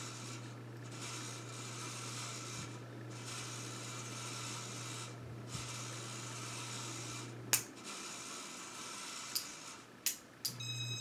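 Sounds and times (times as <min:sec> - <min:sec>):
ceiling fan humming: 0:00.0 - 0:11.0.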